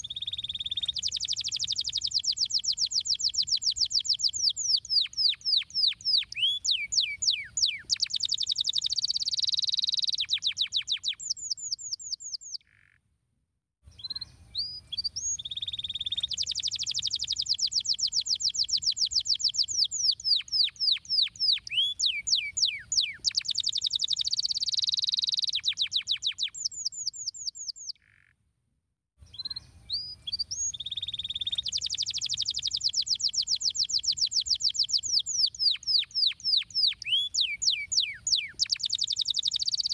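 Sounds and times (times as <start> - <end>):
canary singing: 0.0 - 12.8, 13.9 - 28.2, 29.3 - 39.9.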